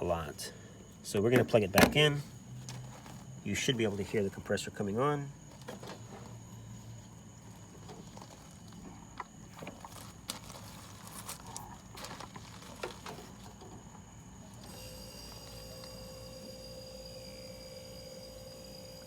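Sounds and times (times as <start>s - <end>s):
fridge compressor humming: 0.0s - 19.0s.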